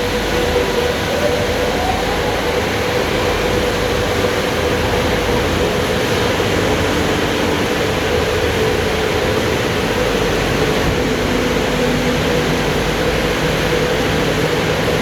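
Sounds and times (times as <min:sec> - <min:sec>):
car wash rushing noise: 0:00.0 - 0:15.0
constant hum: 0:00.0 - 0:15.0.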